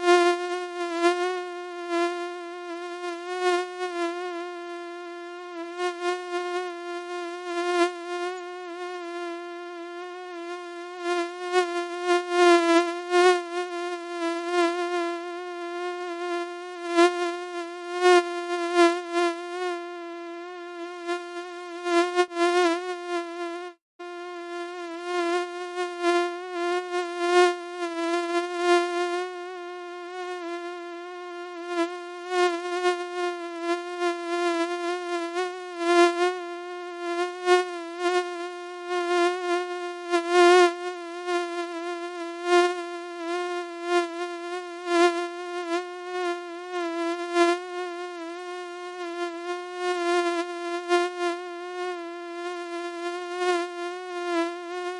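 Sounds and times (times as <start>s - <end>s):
mosquito buzzing: 0.0s - 54.9s.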